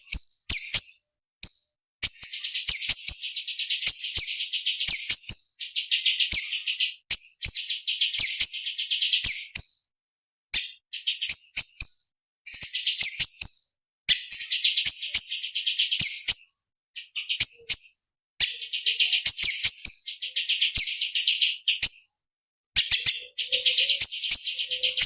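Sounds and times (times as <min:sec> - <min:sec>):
bird singing harsh chattering song: 0:00.0 - 0:25.0.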